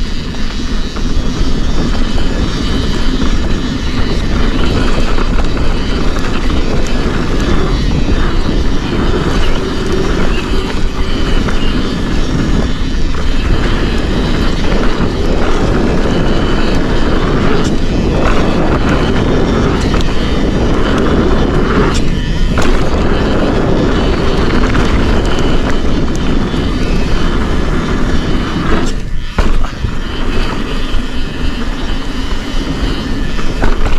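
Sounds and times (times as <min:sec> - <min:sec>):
bike clicks and knocks: 0:00.0 - 0:33.9
tyres on dirt trail: 0:00.0 - 0:33.9
wind rush over microphone: 0:00.0 - 0:33.9.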